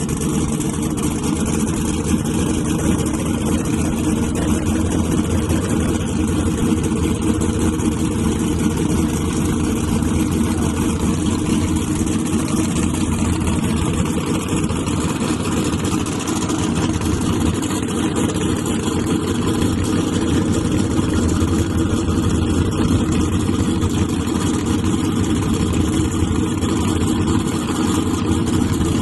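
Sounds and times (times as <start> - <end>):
truck engine idling loudly: 0.0 - 29.0.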